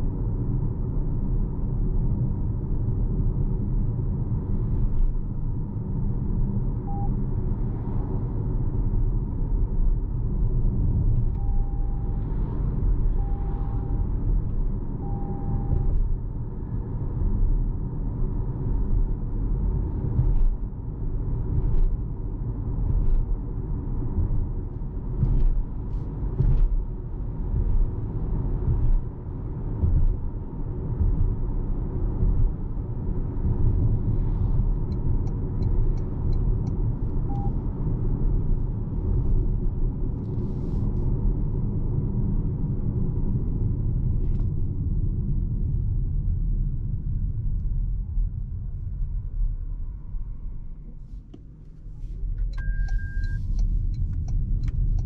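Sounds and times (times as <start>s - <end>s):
road and tyre rumble in car: 0.0s - 55.0s.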